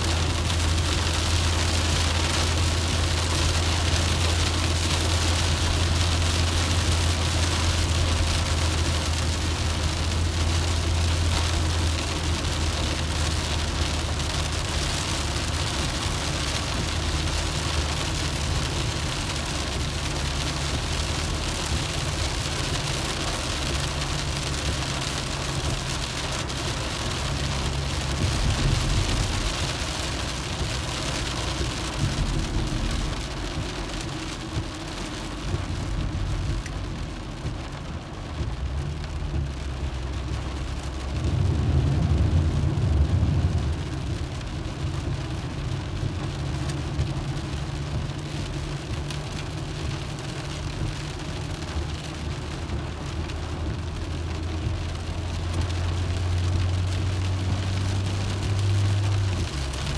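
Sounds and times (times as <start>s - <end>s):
car engine and road rumble: 0.0s - 59.9s
rain: 0.0s - 59.9s
tyres hissing on wet road: 0.0s - 59.9s.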